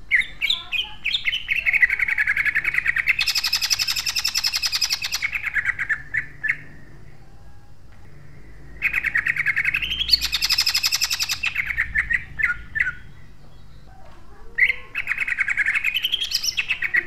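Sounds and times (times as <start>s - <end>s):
bird singing rapid bursts: 0.0s - 17.0s.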